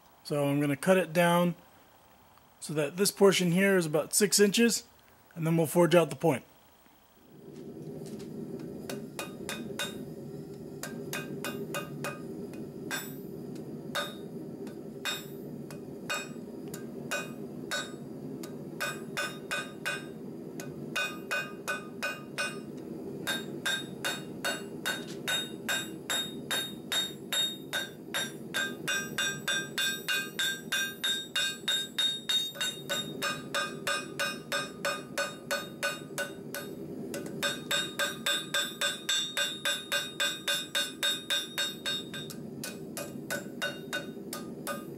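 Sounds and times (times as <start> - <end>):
steady low hum: 0.0 - 44.9
hammer striking hot steel on anvil: 8.2 - 44.9.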